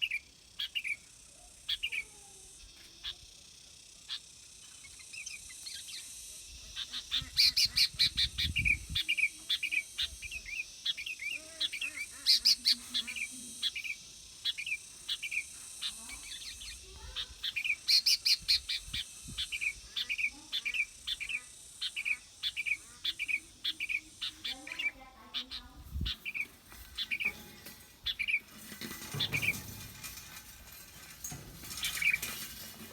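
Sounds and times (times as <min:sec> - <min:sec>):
bird chirping: 0:00.0 - 0:32.7.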